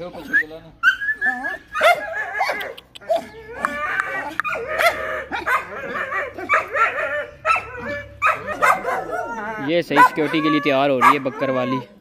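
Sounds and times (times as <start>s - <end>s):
dogs yelping barks: 0.0s - 12.0s.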